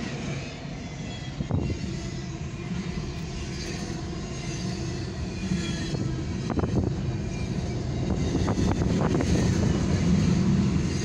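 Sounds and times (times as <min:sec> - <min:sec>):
freight train cars rumbling past: 0:00.0 - 0:11.0.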